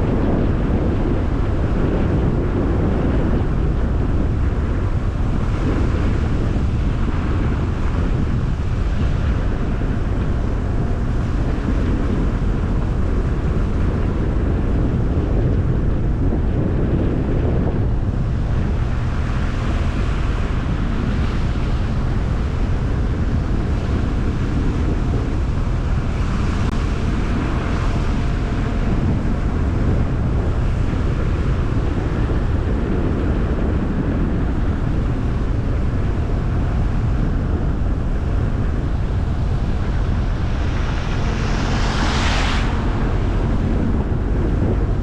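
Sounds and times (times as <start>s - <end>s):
tyres and engine rumble: 0.0s - 45.0s
wind buffeting microphone: 0.0s - 45.0s.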